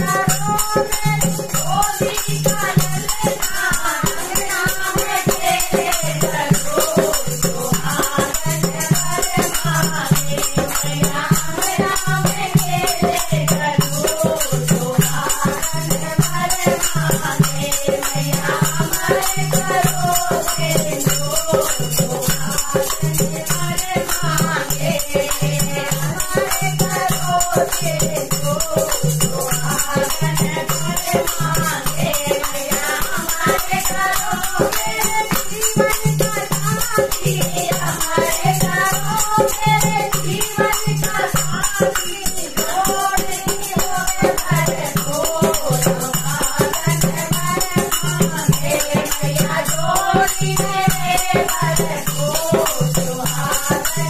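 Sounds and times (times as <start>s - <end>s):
hand drum: 0.0s - 54.0s
jingling metal percussion: 0.0s - 54.0s
women singing in unison: 0.0s - 54.0s.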